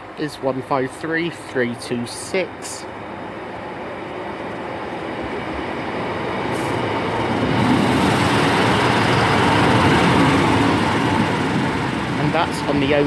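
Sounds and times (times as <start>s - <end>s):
diesel train arriving: 0.0s - 13.0s.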